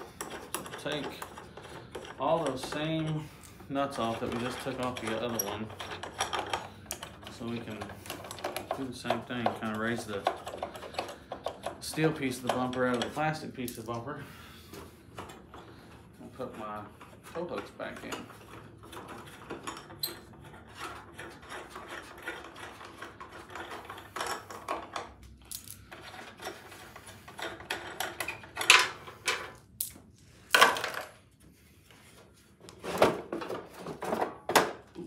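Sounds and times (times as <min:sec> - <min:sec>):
clinks of nuts and parts: 0:00.0 - 0:14.0, 0:17.0 - 0:31.2
scrapes and knocks of bumper parts: 0:00.0 - 0:35.0.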